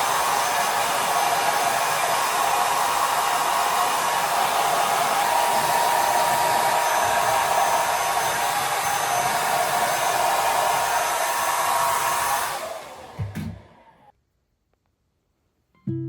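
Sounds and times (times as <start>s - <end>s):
hair dryer blowing: 0.0s - 14.1s.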